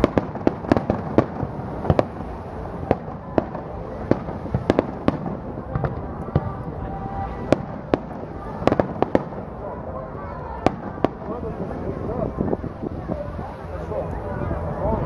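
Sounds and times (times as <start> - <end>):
firework bangs: 0.0 - 13.2
background noise: 0.0 - 15.0.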